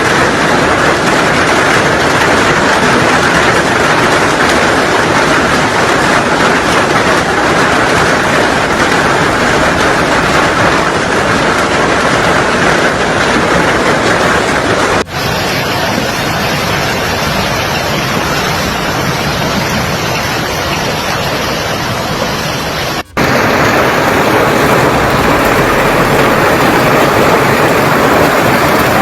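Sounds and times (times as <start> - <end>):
hail and rain pelting down: 0.0 - 29.0.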